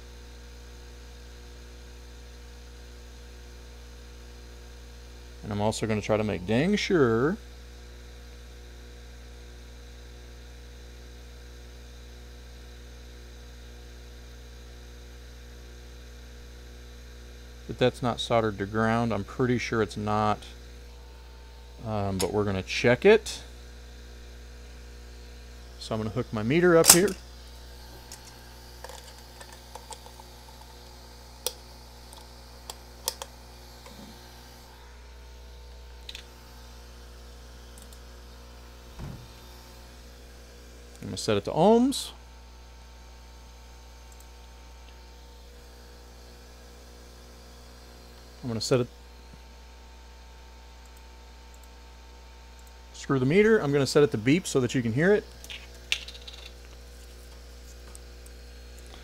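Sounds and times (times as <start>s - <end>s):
electrical mains hum with hiss: 0.0s - 59.0s.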